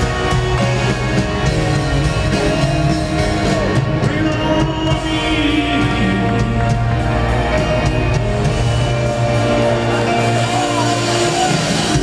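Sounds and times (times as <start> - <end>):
electric guitar chords: 0.0 - 12.0
keyboard chords: 0.0 - 12.0
live rock band playing: 0.0 - 12.0
steady bass: 0.0 - 12.0.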